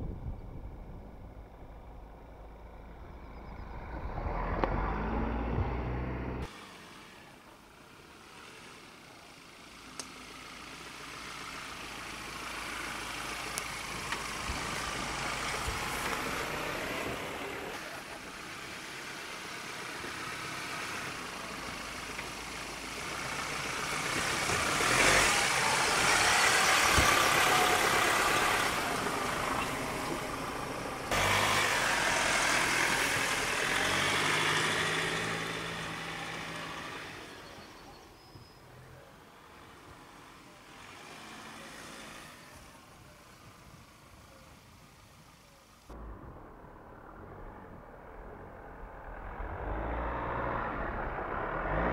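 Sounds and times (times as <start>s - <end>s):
pickup truck engine at low speed: 0.0s - 51.9s.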